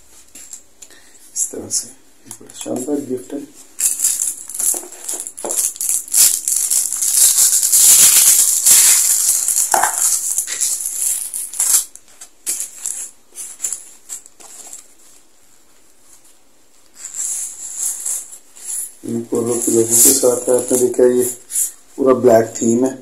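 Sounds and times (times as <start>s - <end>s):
plastic wrapping crinkling: 2.6s - 21.8s.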